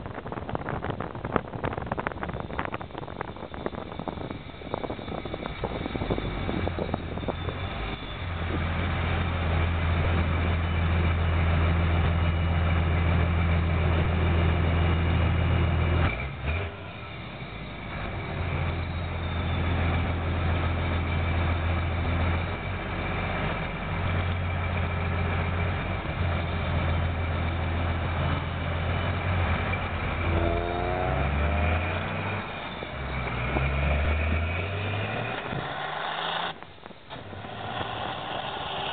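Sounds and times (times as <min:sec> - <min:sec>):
diesel truck exhaust droning: 0:00.0 - 0:38.9.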